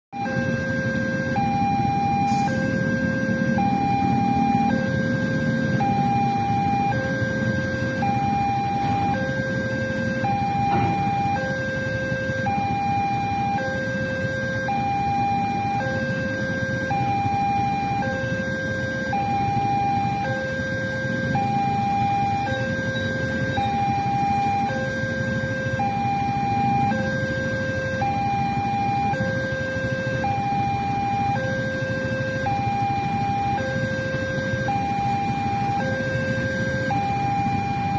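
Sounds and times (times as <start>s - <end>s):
level crossing two-tone alarm: 0.2s - 37.9s
low traffic rumble: 0.2s - 37.9s.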